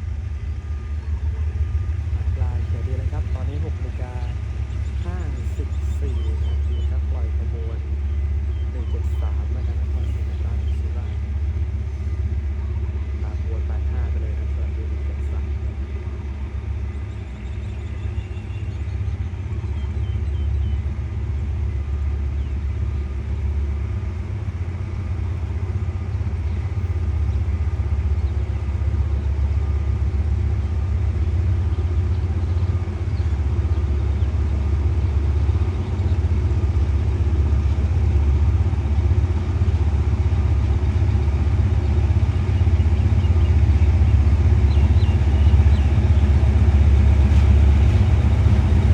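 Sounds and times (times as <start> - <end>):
diesel train engine rumbling: 0.0 - 48.9.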